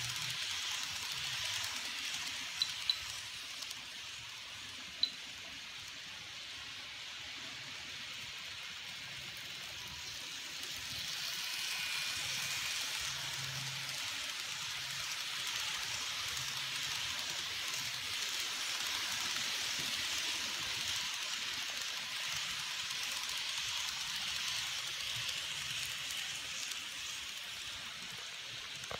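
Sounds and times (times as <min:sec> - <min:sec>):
model train wheels on rail: 0:00.0 - 0:28.9.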